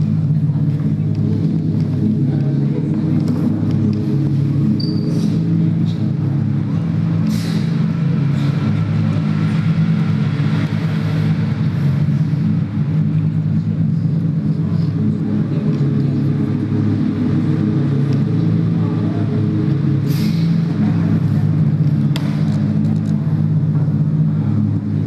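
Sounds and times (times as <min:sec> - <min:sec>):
loud low drone: 0:00.0 - 0:25.0.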